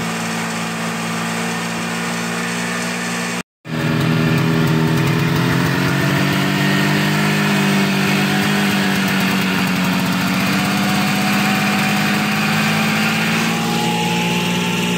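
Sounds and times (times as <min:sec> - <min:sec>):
two-stroke engine idling: 0:00.0 - 0:14.9.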